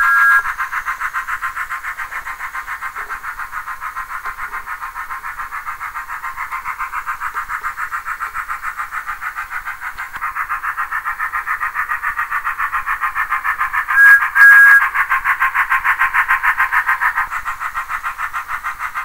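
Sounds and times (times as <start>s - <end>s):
model train steam chuffing: 0.0s - 19.0s.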